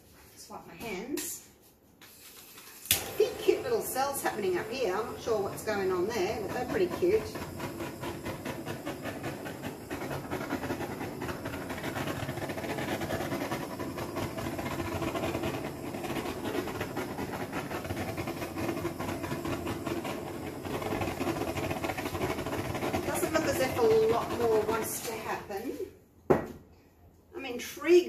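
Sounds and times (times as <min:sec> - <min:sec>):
torch flame hissing: 0:02.0 - 0:25.8.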